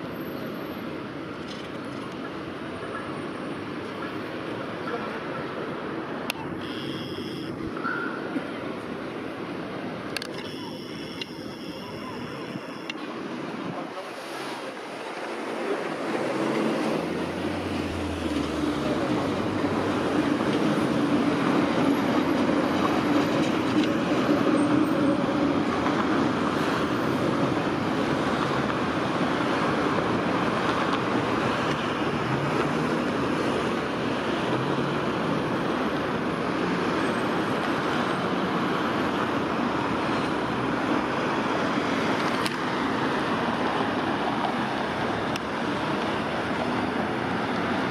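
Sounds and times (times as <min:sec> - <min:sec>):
city traffic noise: 0:00.0 - 0:47.9
tram running on track: 0:00.0 - 0:47.9.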